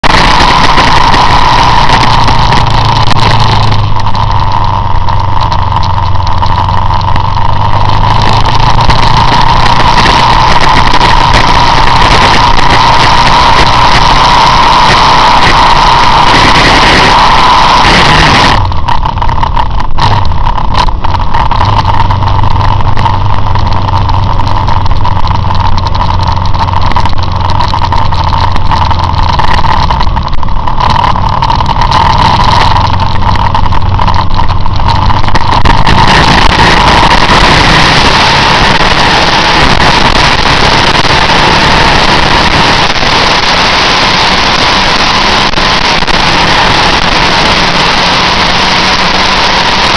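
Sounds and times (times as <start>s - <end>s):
motorcycle engine running: 0.0s - 49.9s
wind noise on microphone: 0.0s - 49.9s.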